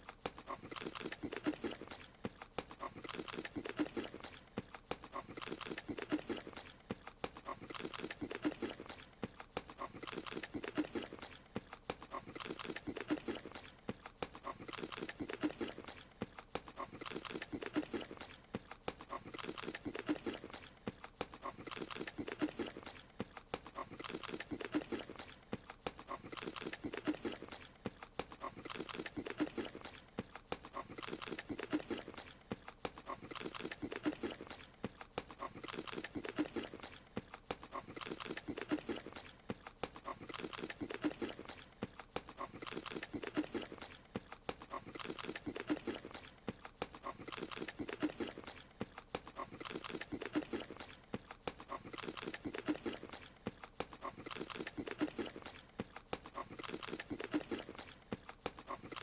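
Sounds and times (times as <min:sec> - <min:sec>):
cartoon munching and chewing: 0:00.0 - 0:59.0.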